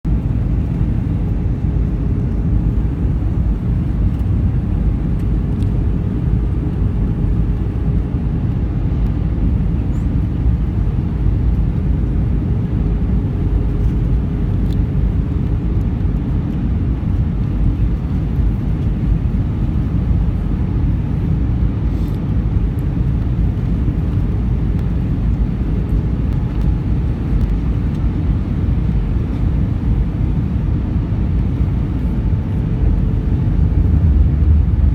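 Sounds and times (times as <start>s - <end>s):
aircraft cabin engine rumble: 0.1s - 34.9s.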